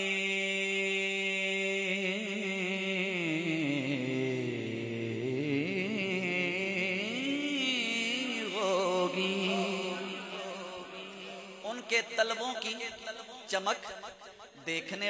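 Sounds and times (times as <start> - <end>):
man singing a held vowel: 0.0 - 13.2.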